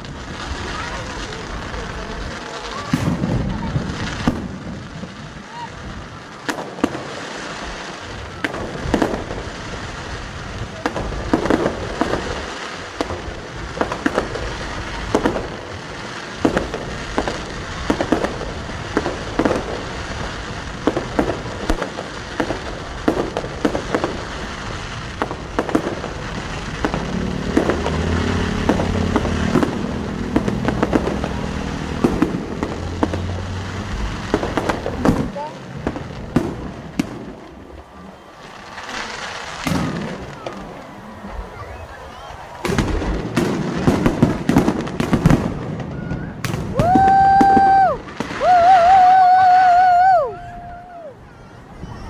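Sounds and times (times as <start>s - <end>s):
fireworks crackling: 0.0s - 52.0s.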